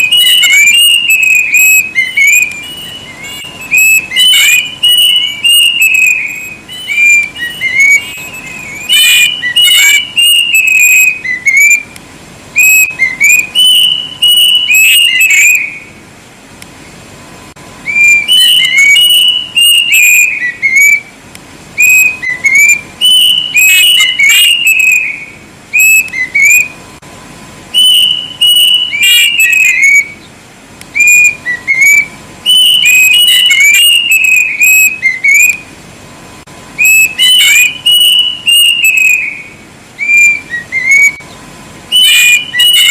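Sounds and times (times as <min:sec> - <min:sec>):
cuckoo whistling song: 0:00.0 - 0:16.0, 0:17.8 - 0:21.2, 0:21.8 - 0:26.9, 0:27.7 - 0:35.8, 0:36.7 - 0:42.9.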